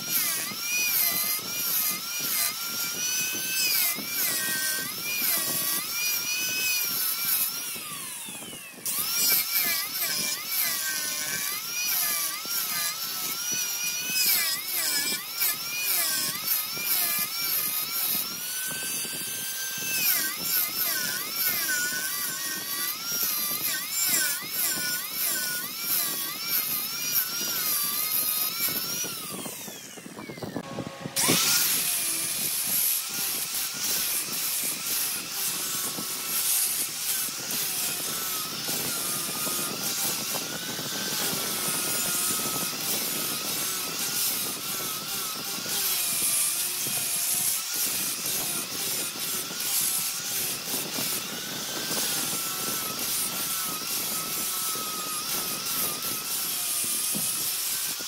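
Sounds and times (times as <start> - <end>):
angle grinder whining: 0.0 - 58.0.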